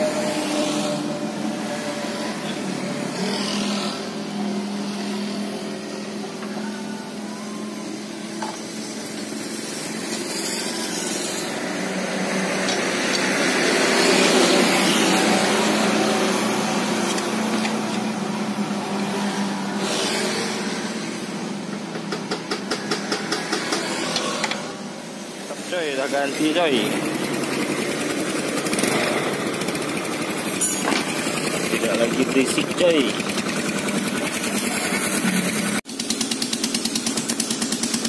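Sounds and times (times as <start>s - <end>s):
small engine running: 0.0s - 38.0s.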